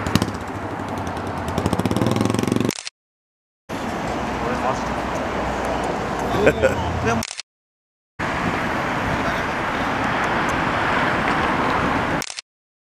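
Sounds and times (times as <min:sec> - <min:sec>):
road traffic: 0:00.0 - 0:02.9, 0:03.7 - 0:07.4, 0:08.2 - 0:12.4.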